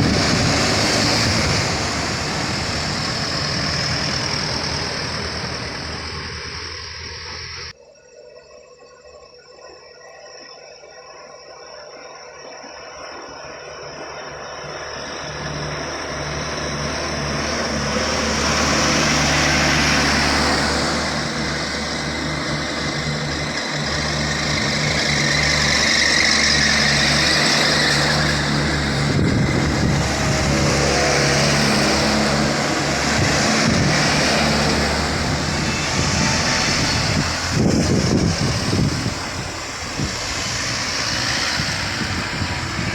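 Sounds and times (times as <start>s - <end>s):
diesel truck engine at full throttle: 0.0s - 7.8s, 13.4s - 42.9s.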